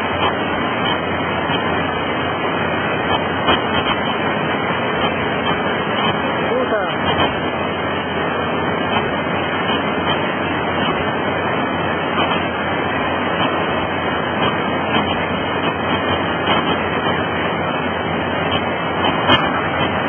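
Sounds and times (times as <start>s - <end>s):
excavator diesel engine hum: 0.0s - 20.0s.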